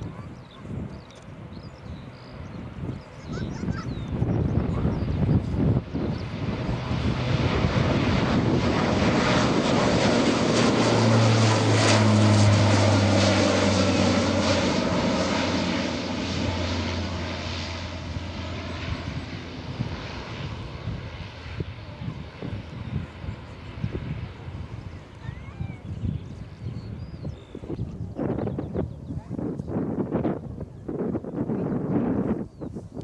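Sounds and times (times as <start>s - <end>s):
military aircraft flying overhead: 0.0s - 33.0s.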